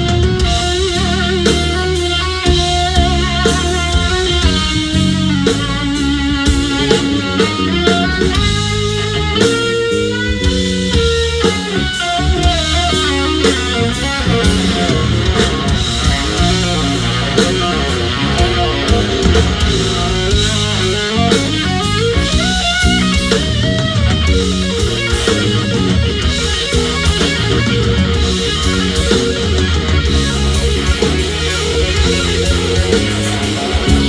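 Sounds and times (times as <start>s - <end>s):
bass guitar: 0.0s - 34.0s
drum kit: 0.0s - 34.0s
electric guitar lead bending: 0.0s - 34.0s.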